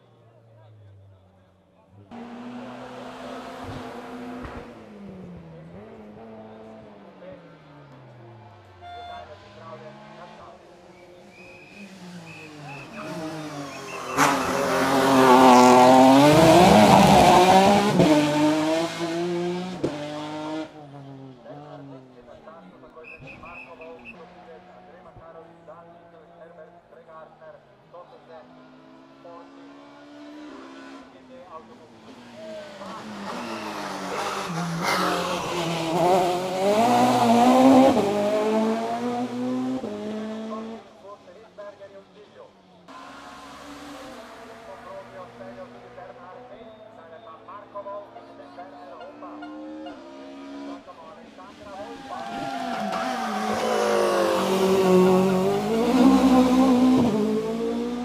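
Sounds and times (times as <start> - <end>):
race car engine: 0.0 - 58.0.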